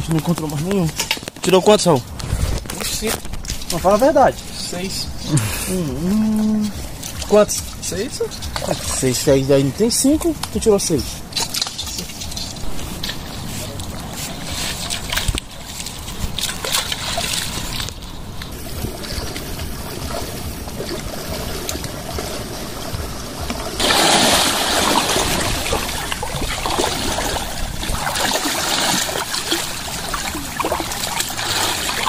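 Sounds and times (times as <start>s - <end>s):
water splashing and trickling: 0.0s - 32.0s.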